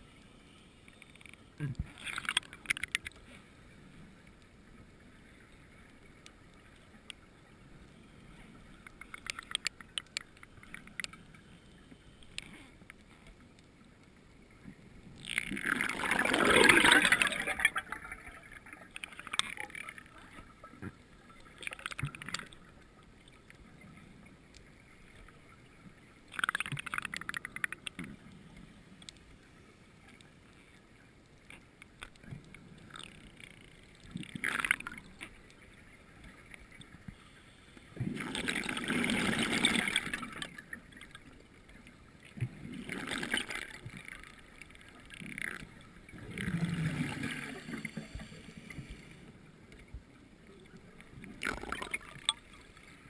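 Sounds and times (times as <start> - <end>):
underwater bubbling: 0.0 - 53.0.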